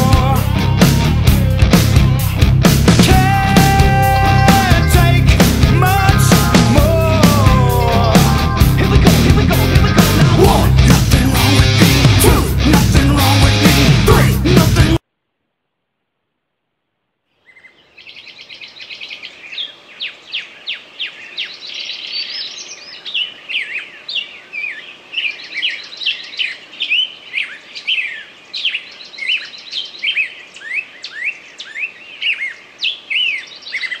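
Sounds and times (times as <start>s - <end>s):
songbirds chirping and trilling: 0.0s - 12.2s, 17.4s - 34.0s.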